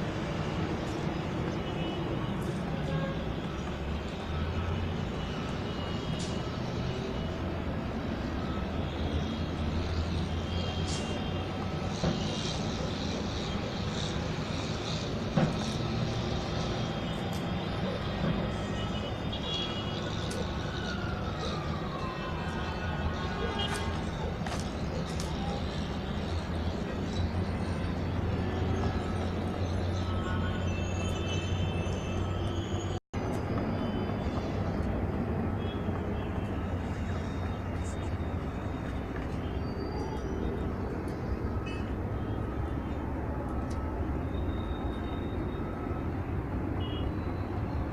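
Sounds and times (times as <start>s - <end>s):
distant city traffic rumble: 0.0s - 47.9s.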